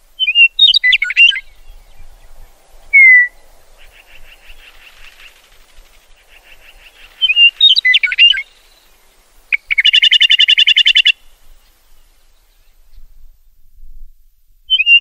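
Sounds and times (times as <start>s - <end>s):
meadowlark singing: 0.1s - 13.6s, 14.7s - 15.0s.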